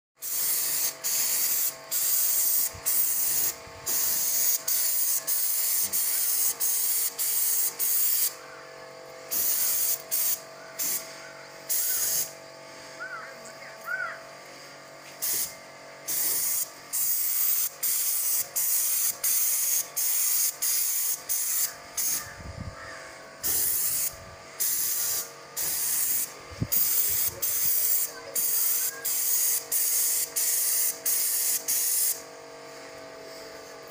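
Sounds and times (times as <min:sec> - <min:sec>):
spray gun hissing: 0:00.2 - 0:08.4, 0:09.3 - 0:12.4, 0:15.2 - 0:22.4, 0:23.4 - 0:33.6
machine hum: 0:00.3 - 0:33.9.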